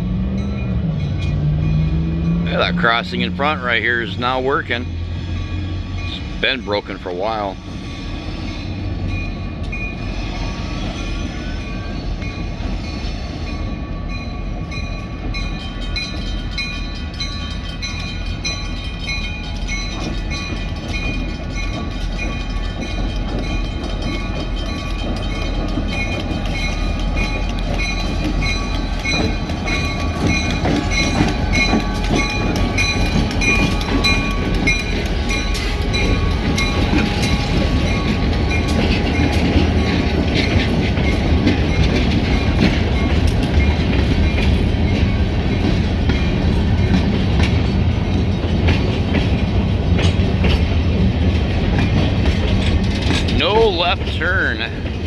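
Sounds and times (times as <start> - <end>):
diesel locomotive rumble: 0.0 - 55.0
railroad crossing bell ringing: 0.0 - 55.0
train wheels clacking on rails: 0.0 - 55.0.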